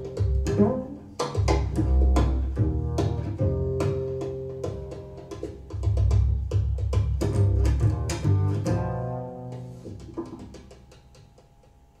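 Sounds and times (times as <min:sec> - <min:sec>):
jazz trio music: 0:00.0 - 0:10.8.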